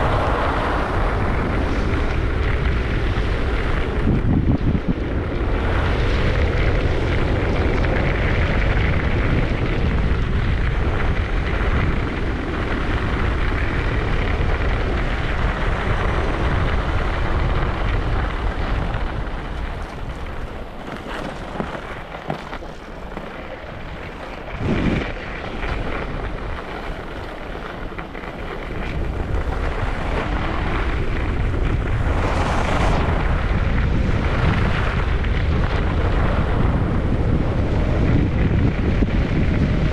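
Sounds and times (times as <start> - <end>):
skis sliding over snow: 0.0 - 39.9
wind buffeting microphone: 0.0 - 39.9.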